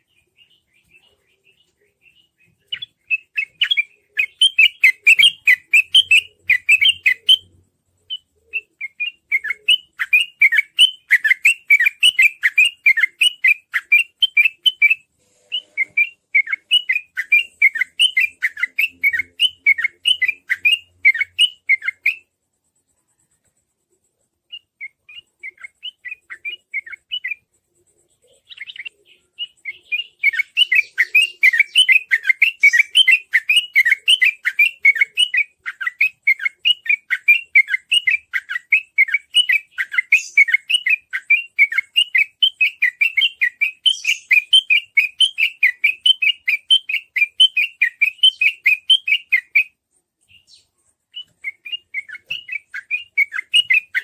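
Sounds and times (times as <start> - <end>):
bird rapid chirping song: 0.0 - 54.0.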